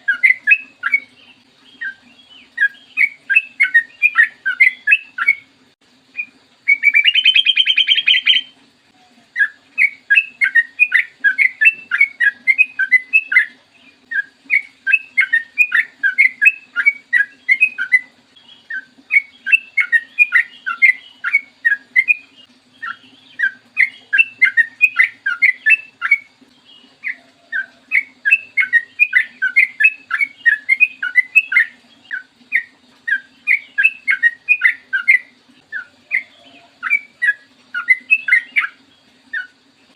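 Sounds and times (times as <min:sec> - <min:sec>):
bird singing whistled notes: 0:00.0 - 0:05.5, 0:06.1 - 0:39.7
harsh buzzy bird call: 0:06.2 - 0:39.6.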